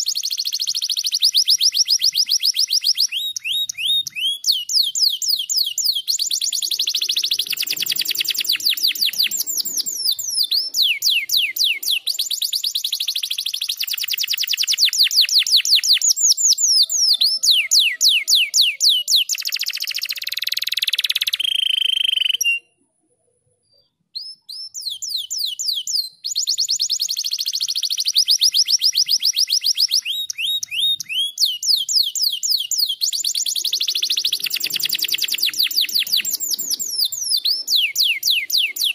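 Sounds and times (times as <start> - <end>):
canary singing trills: 0.0 - 22.8, 23.7 - 38.9.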